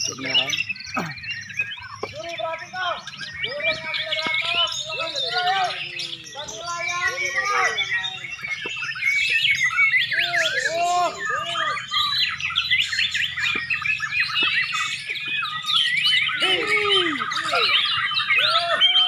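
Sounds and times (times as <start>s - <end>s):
birds singing chorus: 0.0s - 19.0s
low swooping bird calls: 0.0s - 19.0s.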